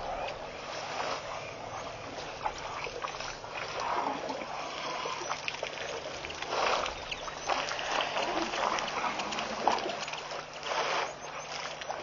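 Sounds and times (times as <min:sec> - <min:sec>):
steady outdoor hiss: 0:00.0 - 0:12.0
water splashing and trickling: 0:00.0 - 0:12.0.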